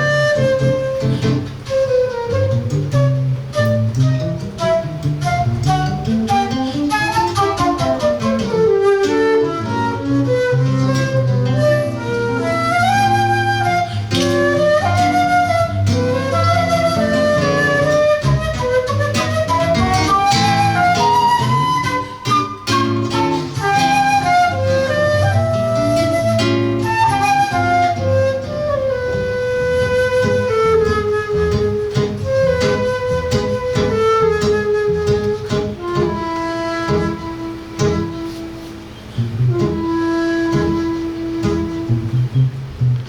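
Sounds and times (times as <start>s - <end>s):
flute melody: 0.0s - 42.9s
plucked guitar: 0.0s - 43.0s.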